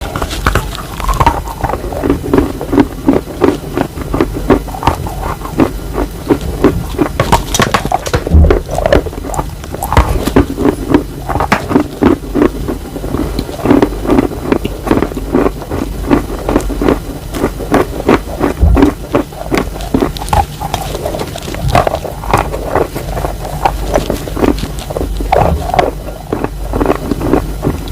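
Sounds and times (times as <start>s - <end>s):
chalk crunching while chewed: 0.0s - 27.9s.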